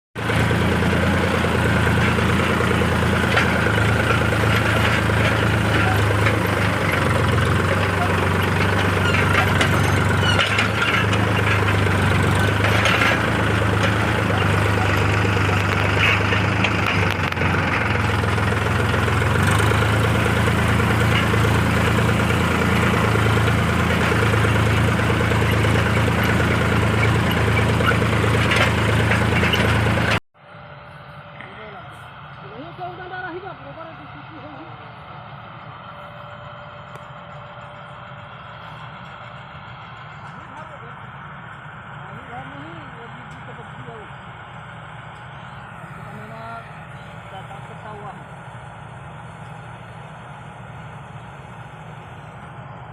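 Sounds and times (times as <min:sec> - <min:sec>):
combine harvester engine drone: 0:00.2 - 0:52.9
machinery whine: 0:00.2 - 0:52.9.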